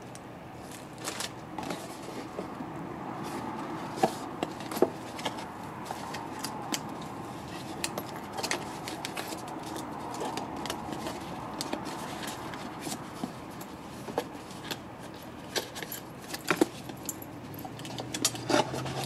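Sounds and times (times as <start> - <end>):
hands handling cardboard packaging: 0.6 - 2.6, 3.2 - 17.2.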